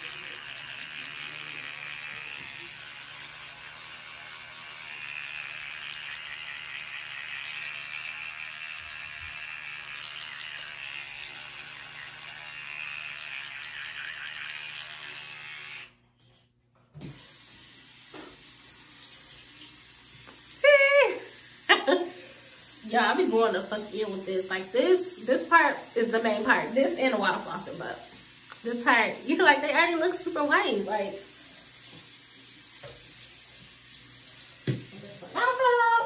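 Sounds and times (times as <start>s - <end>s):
electric toothbrush buzzing: 0.0s - 16.3s, 17.0s - 36.0s.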